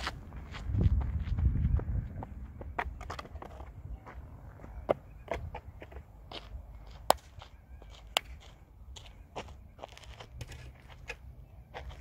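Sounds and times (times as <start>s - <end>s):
footsteps on gravelly dirt: 0.0s - 12.0s.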